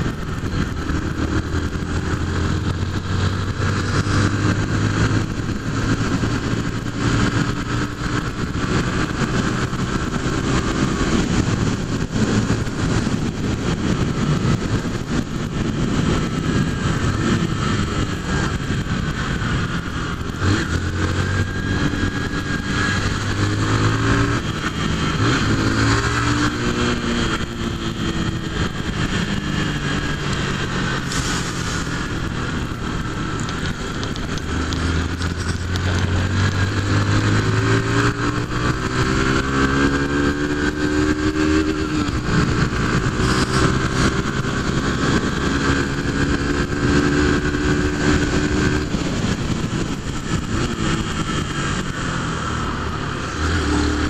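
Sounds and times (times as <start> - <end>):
motorcycle engine running: 0.0 - 54.0
wind noise: 0.0 - 54.0.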